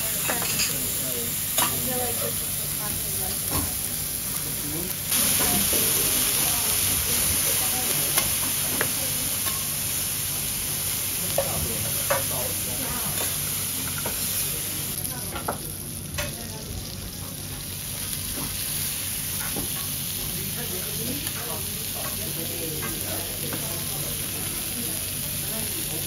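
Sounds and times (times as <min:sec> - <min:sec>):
bean sprouts sizzling on griddle: 0:00.0 - 0:26.0.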